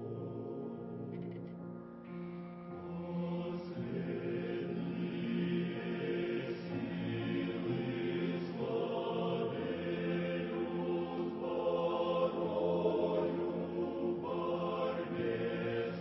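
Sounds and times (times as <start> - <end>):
choir singing a hymn: 0.0 - 1.4, 2.7 - 16.0.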